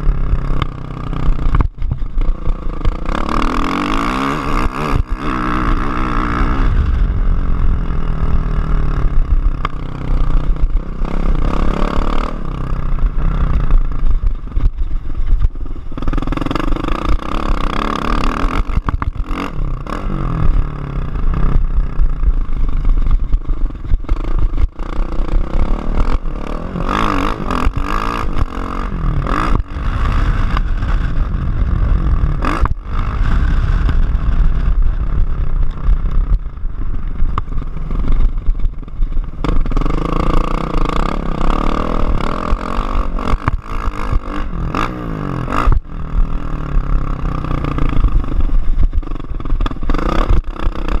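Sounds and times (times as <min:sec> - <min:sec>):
motocross bike engine revving: 0:00.0 - 0:51.0
wind rush on microphone: 0:00.0 - 0:51.0.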